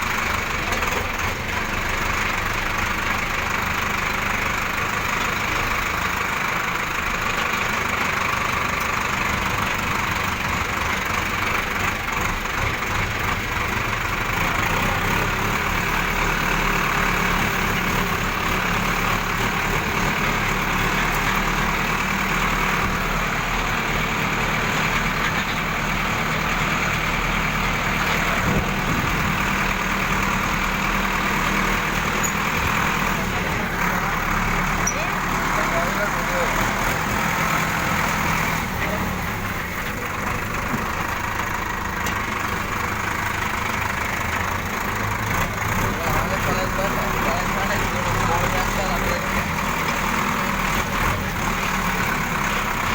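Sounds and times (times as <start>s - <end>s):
vehicle engine idling: 0.0s - 52.9s.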